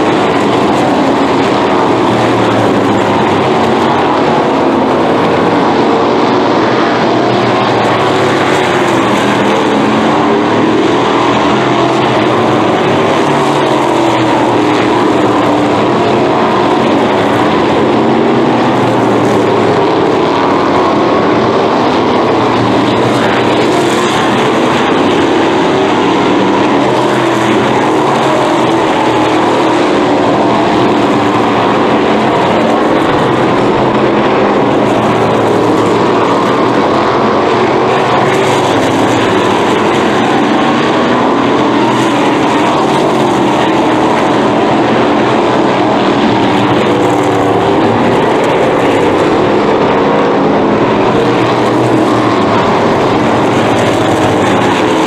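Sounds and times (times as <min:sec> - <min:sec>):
racing car engines: 0:00.0 - 0:55.0.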